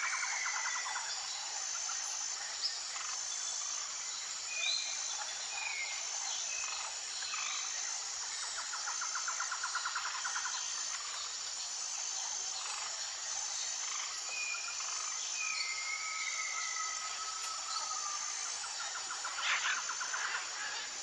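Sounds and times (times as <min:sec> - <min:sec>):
insect chorus trilling: 0:00.0 - 0:21.0
rapid pulsing insect call: 0:00.0 - 0:21.0.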